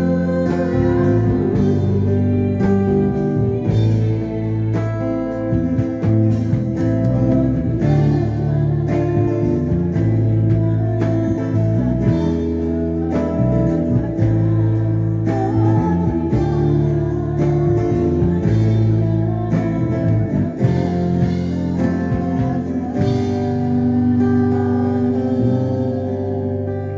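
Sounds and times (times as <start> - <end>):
bass line: 0.0 - 26.9
people singing: 0.0 - 26.9
strummed guitar: 0.0 - 26.9.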